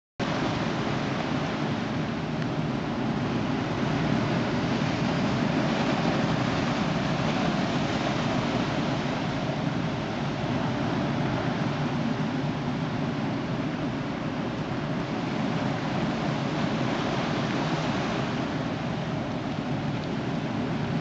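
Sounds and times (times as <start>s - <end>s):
sea surf roaring: 0.2s - 21.0s.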